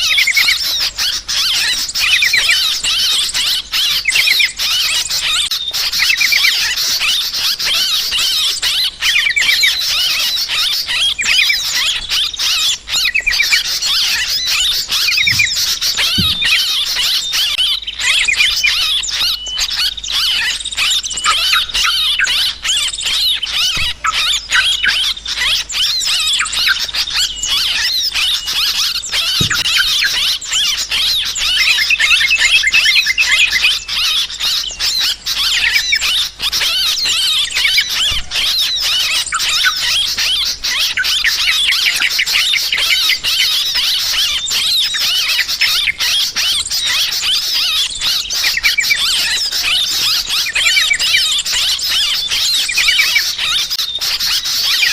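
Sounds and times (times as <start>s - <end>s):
birds chattering: 0.0s - 54.9s.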